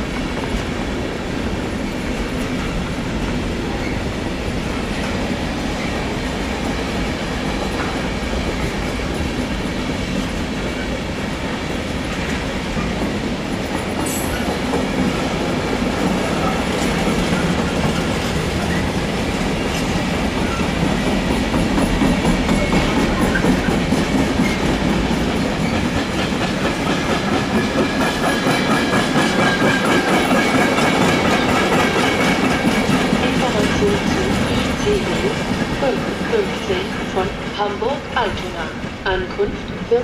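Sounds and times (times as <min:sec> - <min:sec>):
freight train wagons rolling: 0:01.6 - 0:40.0.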